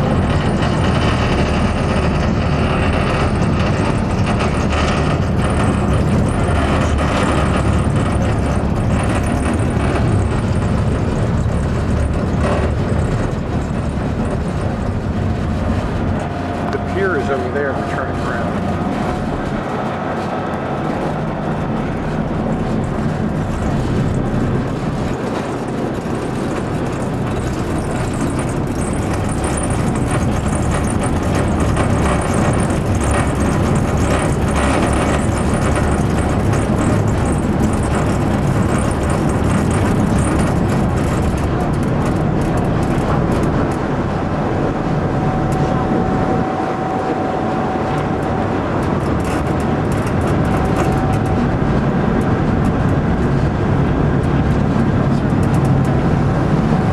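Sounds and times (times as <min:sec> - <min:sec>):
ferry engine rumble: 0:00.0 - 0:56.9.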